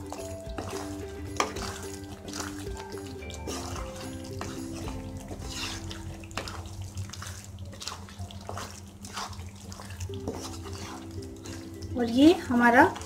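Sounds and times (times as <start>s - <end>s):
wooden spatula stirring thick gravy: 0.0s - 13.0s.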